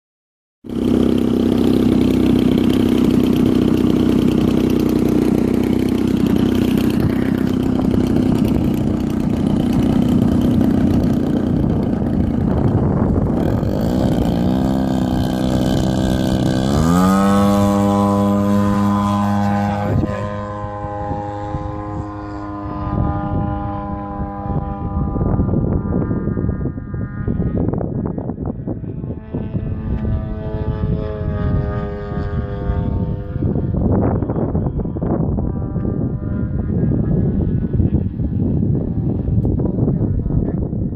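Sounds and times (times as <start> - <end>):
model airplane engine running: 0.7 - 40.9.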